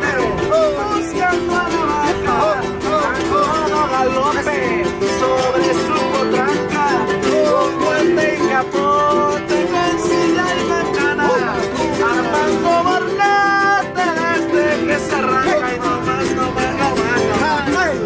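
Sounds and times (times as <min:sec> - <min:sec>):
man singing: 0:00.0 - 0:18.0
strummed string ensemble: 0:00.0 - 0:18.0.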